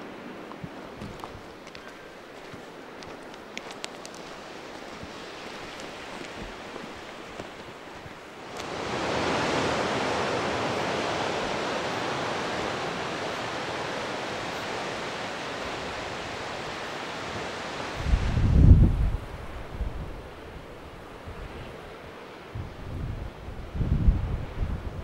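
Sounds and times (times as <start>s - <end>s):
sea surf against rocks: 0.0s - 25.0s
wind buffeting microphone: 0.1s - 25.0s.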